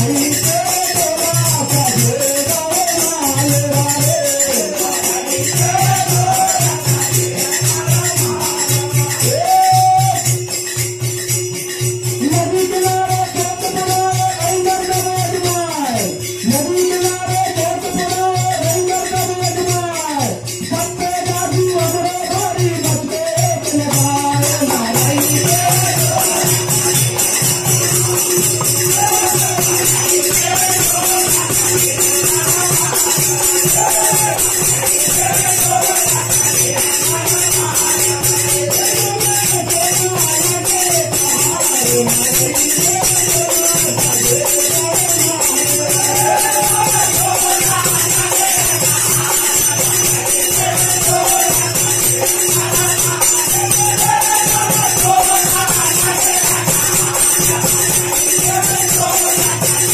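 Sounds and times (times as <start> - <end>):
man singing lead melody: 0.0 - 10.5, 12.0 - 59.9
drum beating: 0.0 - 59.9
fast jingling percussion: 0.0 - 59.9.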